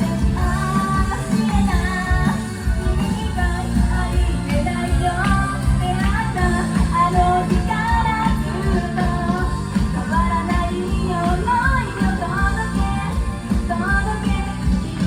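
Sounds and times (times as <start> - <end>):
pop song with singer and band: 0.0 - 15.0.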